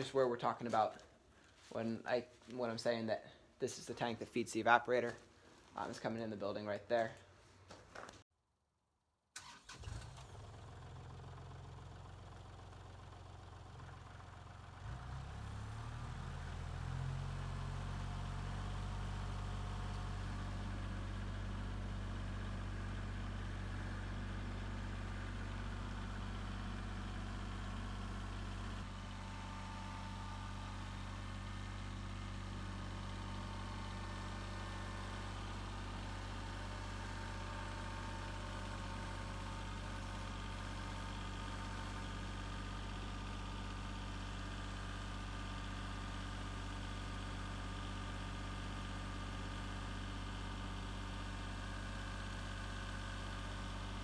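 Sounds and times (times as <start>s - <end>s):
tractor diesel engine: 9.4s - 54.0s.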